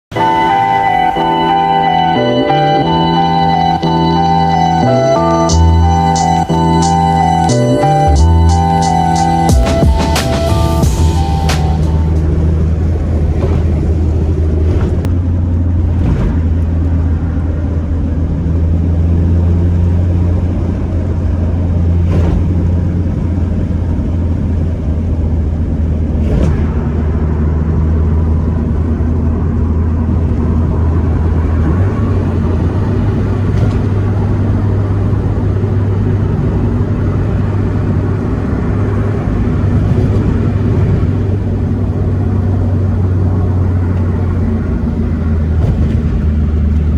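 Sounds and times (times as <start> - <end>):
car engine droning: 0.0 - 46.9.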